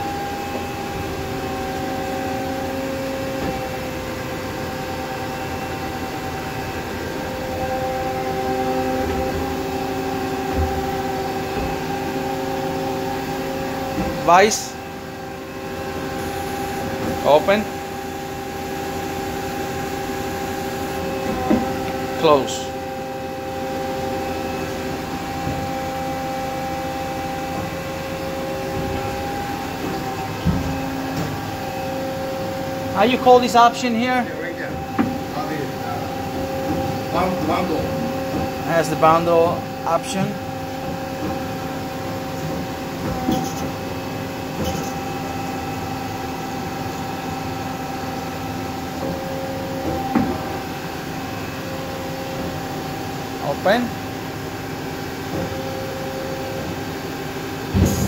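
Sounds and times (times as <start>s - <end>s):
band saw humming idle: 0.0s - 58.0s.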